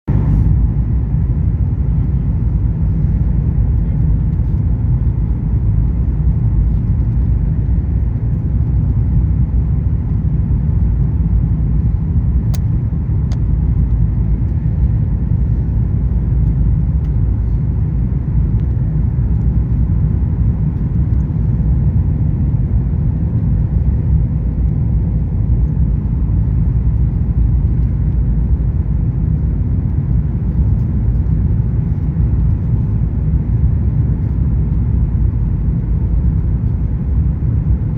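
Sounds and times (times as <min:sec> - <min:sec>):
airplane cabin rumble: 0:00.0 - 0:37.9.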